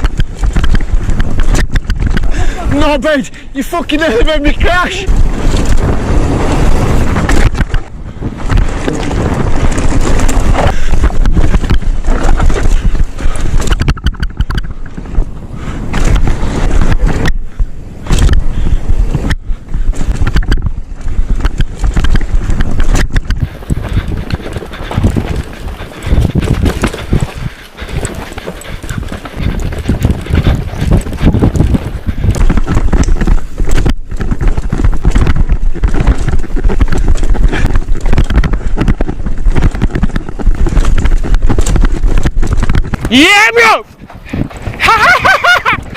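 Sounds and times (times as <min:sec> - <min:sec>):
bike rattling on rough ground: 0:00.0 - 0:45.9
bike tyre noise: 0:00.0 - 0:45.9
wind buffeting microphone: 0:00.0 - 0:45.9.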